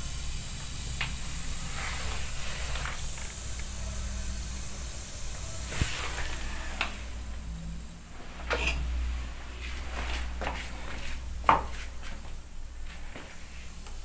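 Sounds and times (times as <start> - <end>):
fizzing hiss in drain: 0.0 - 14.0.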